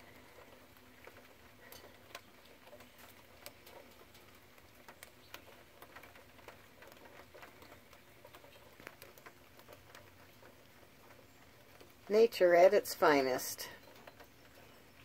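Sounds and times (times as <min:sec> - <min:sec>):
light ticks and clicks: 0:00.0 - 0:15.0.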